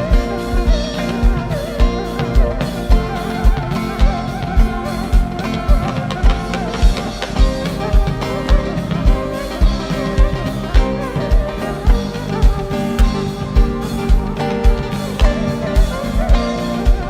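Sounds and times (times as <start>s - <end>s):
instrumental music with kick drum: 0.0s - 17.0s
plucked guitar-like melody: 0.0s - 17.0s.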